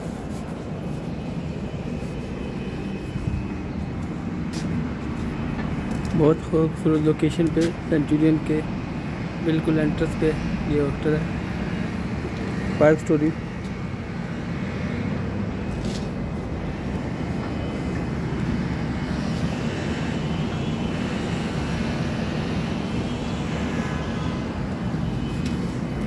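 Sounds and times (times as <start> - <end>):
low rumble of background noise: 0.0 - 26.0.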